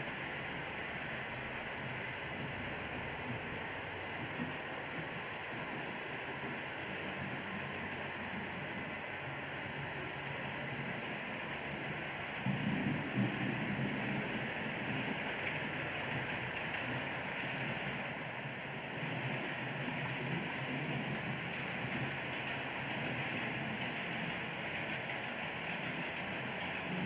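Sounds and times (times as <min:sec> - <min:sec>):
model train wheels rumbling on rails: 0:00.0 - 0:27.0.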